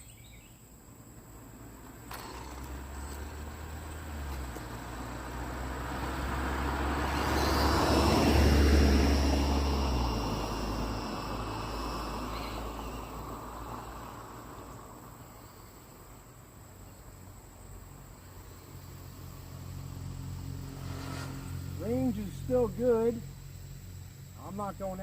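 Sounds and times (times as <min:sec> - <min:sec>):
vehicle passing by: 0:01.2 - 0:25.0.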